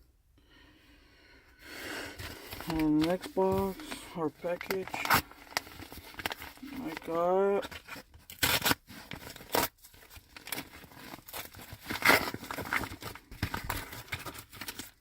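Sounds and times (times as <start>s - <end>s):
packaging crinkling and rustling: 1.9s - 15.0s
package being torn open: 2.3s - 15.0s.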